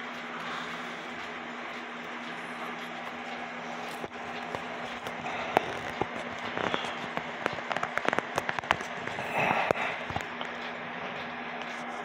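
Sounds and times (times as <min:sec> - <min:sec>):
light irregular clicks and taps: 0:00.0 - 0:12.0
steady low hum: 0:00.0 - 0:12.0.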